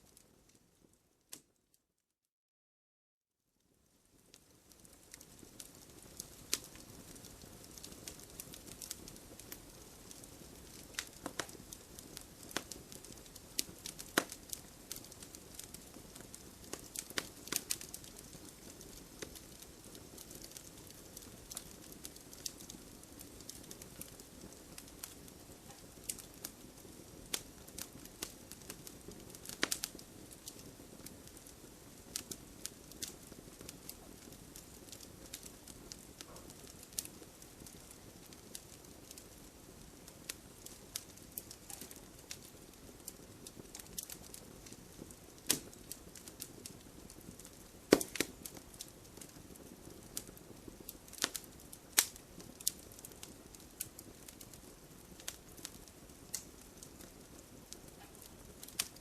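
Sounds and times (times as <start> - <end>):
low steady hiss: 0.0 - 1.6, 3.4 - 59.0
wood fire crackling: 0.0 - 1.6, 3.6 - 59.0.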